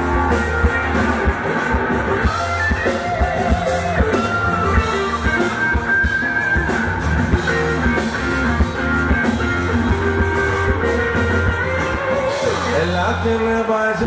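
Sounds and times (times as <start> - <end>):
rock band music: 0.0 - 14.0.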